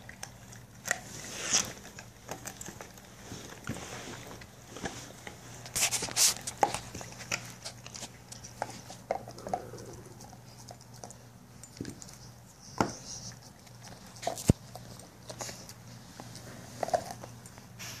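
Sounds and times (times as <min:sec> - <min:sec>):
dog gnawing bone: 0:00.0 - 0:17.8.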